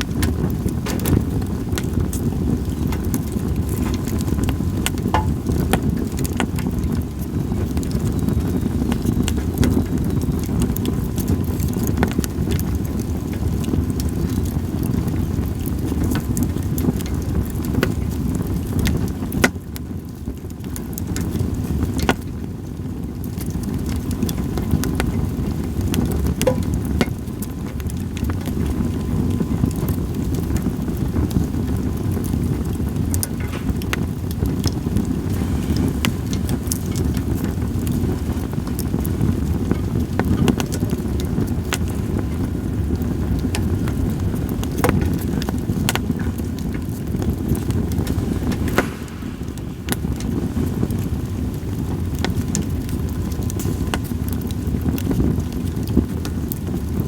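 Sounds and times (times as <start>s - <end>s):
campfire crackling and popping: 0.0s - 57.0s
wind rumble on microphone: 0.0s - 57.0s.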